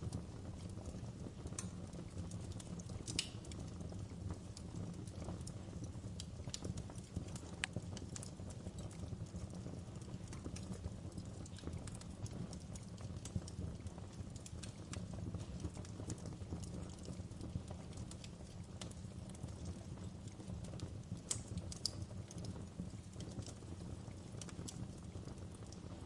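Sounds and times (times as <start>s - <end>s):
burning wood crackling and popping: 0.0s - 26.0s
fire rumbling: 0.0s - 26.0s.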